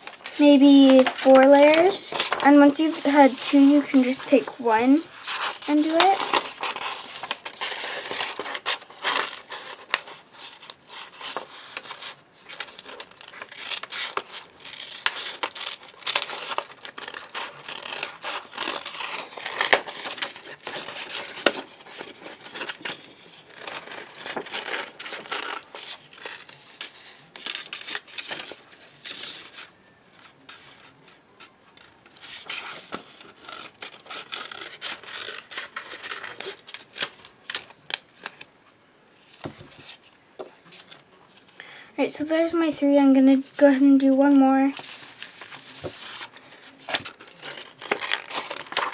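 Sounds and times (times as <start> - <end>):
paper crinkling and rustling: 0.0 - 41.6, 43.3 - 48.9.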